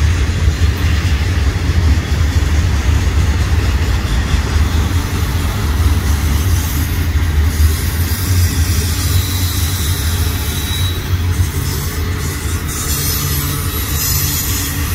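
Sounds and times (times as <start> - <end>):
freight train rumbling on rails: 0.0 - 14.9.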